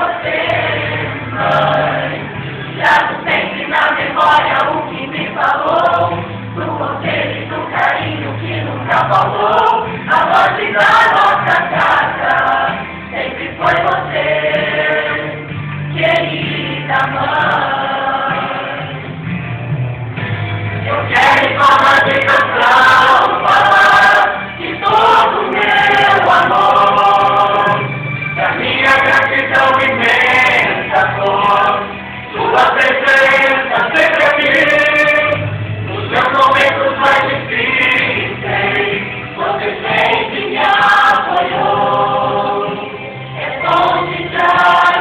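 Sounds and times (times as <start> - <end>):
choir singing gospel song: 0.0 - 19.2, 20.8 - 45.0
instrumental accompaniment with bass: 0.0 - 45.0.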